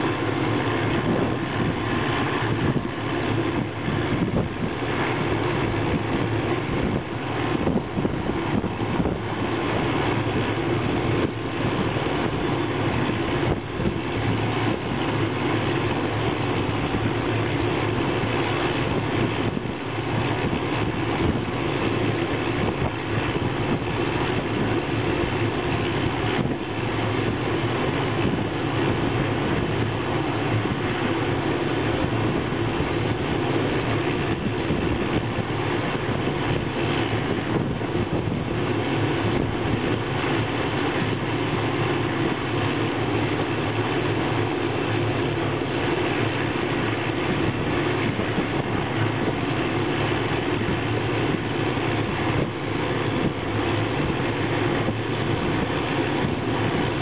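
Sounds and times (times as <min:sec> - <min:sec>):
helicopter turbine engine: 0:00.0 - 0:57.0.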